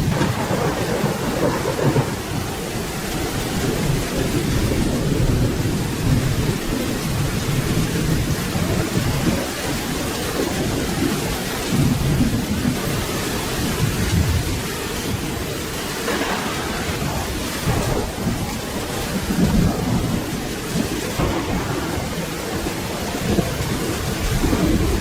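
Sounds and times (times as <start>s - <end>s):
rolling thunder: 0.0s - 25.0s
steady rain: 0.0s - 25.0s.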